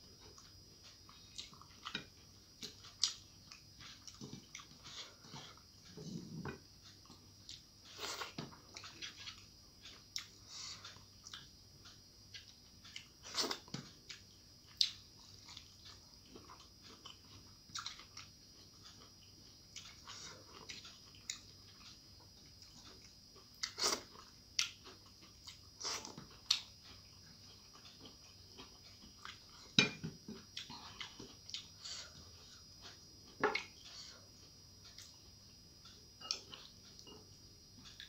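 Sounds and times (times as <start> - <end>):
chewing and smacking: 0.1 - 38.0.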